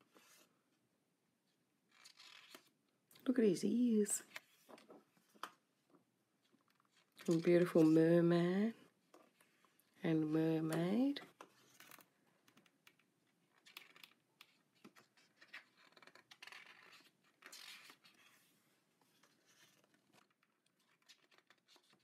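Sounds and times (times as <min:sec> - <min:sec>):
book pages rustling and turning: 0:00.0 - 0:00.7, 0:01.5 - 0:02.8, 0:04.2 - 0:22.0.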